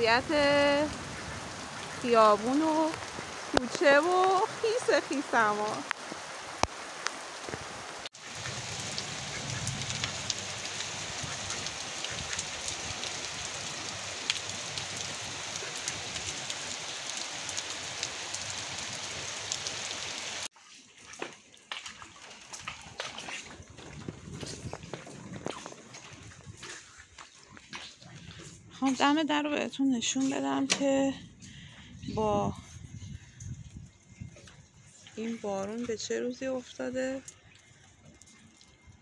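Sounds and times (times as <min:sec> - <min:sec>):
rain falling on water: 0:00.0 - 0:31.6, 0:33.3 - 0:39.0
water dripping: 0:00.0 - 0:31.9, 0:32.5 - 0:39.0.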